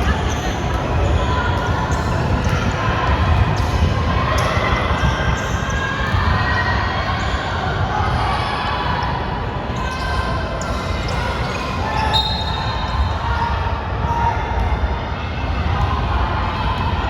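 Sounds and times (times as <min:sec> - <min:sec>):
players calling and spectators: 0:00.0 - 0:17.0.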